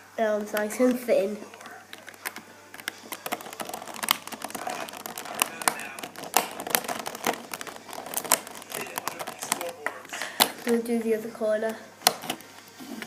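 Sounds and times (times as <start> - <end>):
plastic puzzle pieces clicking: 0.4 - 11.0, 11.6 - 13.0.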